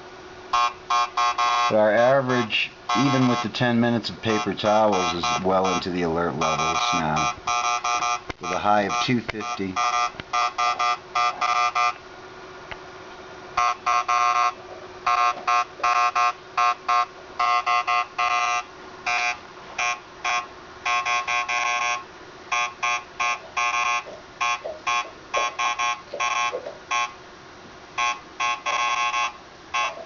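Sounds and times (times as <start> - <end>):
geiger counter beeping: 2.4 - 12.0, 13.6 - 27.2, 28.0 - 30.0.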